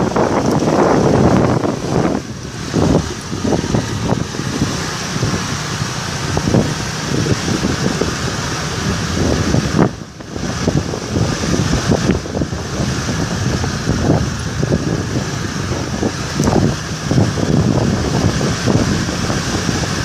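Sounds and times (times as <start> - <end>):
scooter engines running: 0.0 - 20.0
wind buffeting microphone: 0.0 - 20.0.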